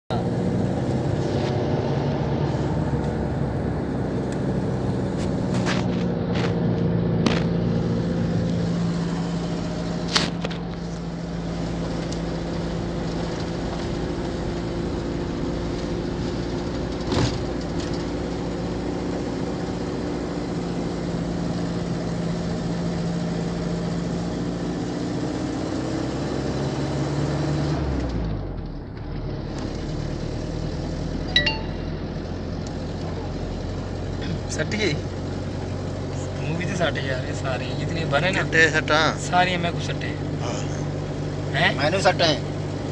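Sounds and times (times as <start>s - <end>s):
vehicle engine running: 0.1s - 25.5s, 28.2s - 42.9s
road noise inside vehicle: 0.1s - 42.9s.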